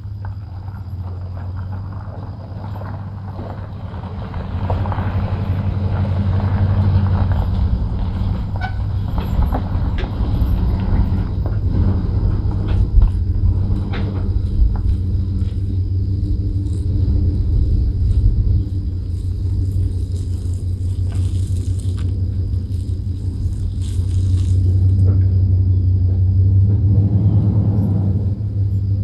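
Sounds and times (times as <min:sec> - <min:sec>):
sawmill engine running: 0:00.9 - 0:28.7.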